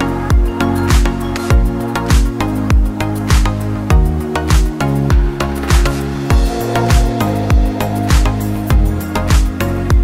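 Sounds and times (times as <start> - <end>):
bass line: 0.0 - 10.0
electronic music: 0.0 - 10.0
deep kick drum beat: 0.3 - 10.0.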